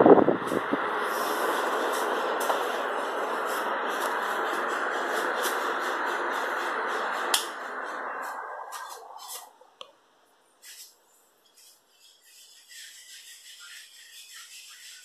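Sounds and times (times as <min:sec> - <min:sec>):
ceiling fan rushing: 0:00.0 - 0:15.0.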